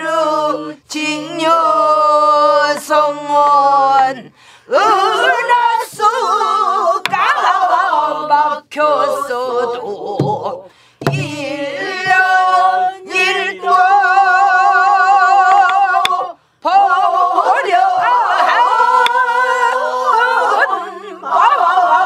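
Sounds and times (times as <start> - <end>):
person singing with wide vibrato: 0.0 - 22.0.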